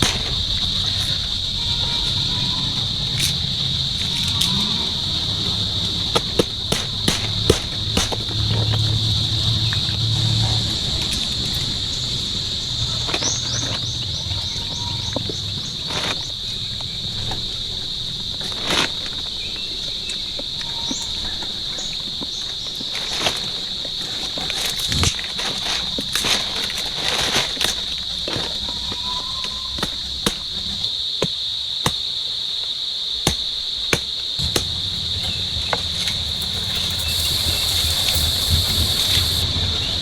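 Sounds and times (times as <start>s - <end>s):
chorus of insects: 0.0s - 40.0s.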